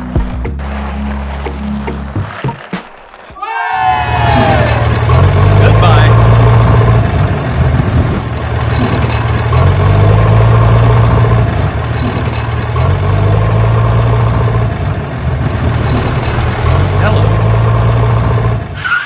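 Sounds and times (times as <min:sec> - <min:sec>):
tractor engine humming: 0:00.0 - 0:19.0.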